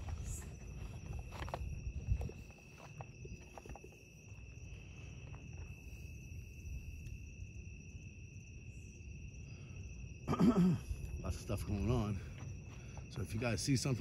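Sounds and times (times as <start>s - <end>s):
night insects singing: 0.0s - 14.0s.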